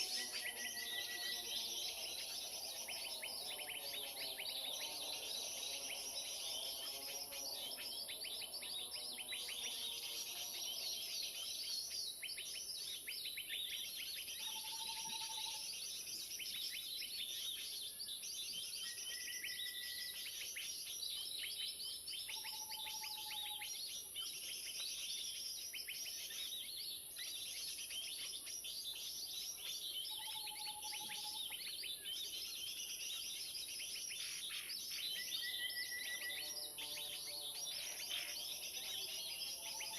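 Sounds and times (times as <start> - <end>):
many small birds chattering: 0.0 - 39.9.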